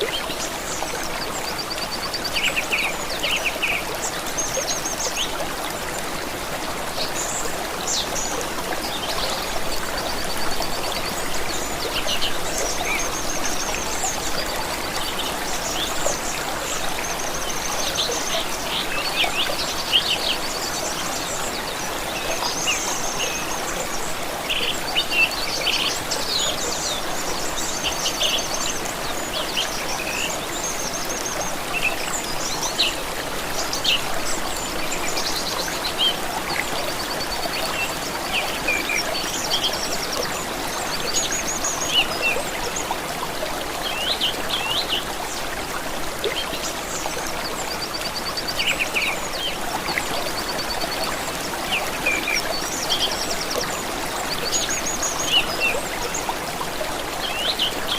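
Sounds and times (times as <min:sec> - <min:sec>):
stream running water: 0:00.0 - 0:57.9.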